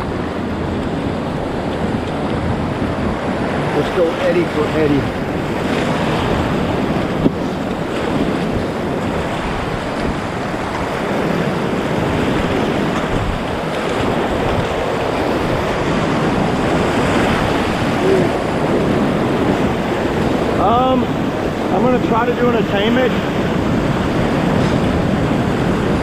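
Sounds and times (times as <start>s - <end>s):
whitewater rapids rushing: 0.0s - 26.0s.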